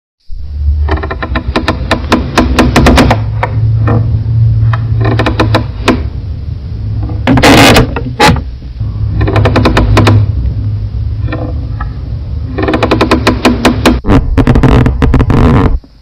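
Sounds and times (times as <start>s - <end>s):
low rumble: 0.2s - 16.0s
wooden floorboards creaking: 0.8s - 6.2s, 7.0s - 8.5s, 9.1s - 10.5s, 11.2s - 16.0s.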